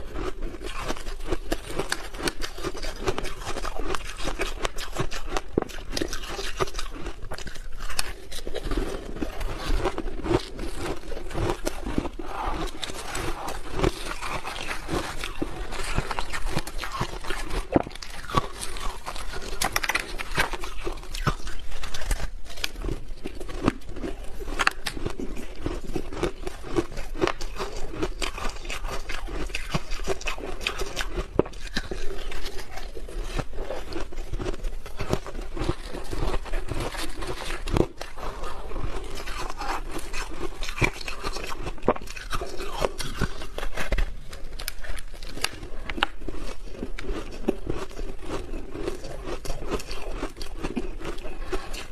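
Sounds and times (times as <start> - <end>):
chewing crunchy ice: 0.0 - 51.9.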